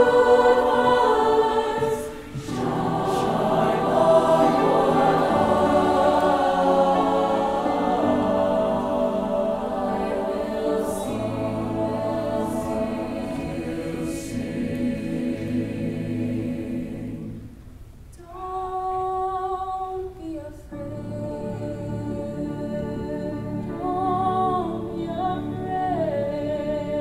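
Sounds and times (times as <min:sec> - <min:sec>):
choir singing held chords: 0:00.0 - 0:17.8, 0:20.7 - 0:27.0.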